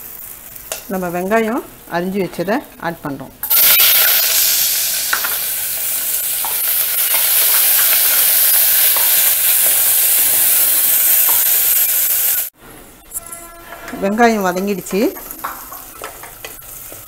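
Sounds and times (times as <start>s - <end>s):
onions sizzling in hot oil: 0.0s - 12.5s, 14.0s - 17.0s.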